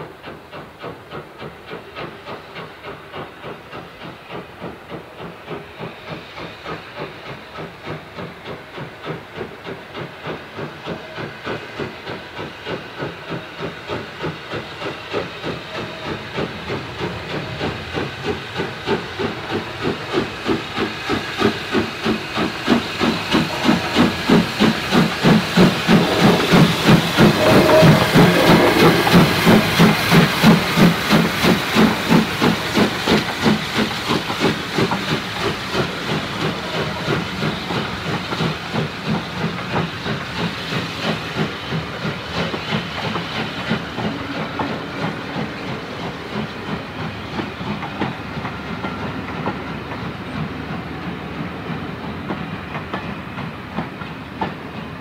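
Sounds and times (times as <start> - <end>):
steam engine exhaust chuffing: 0.0 - 54.7
railway coaches rolling by: 0.0 - 55.0.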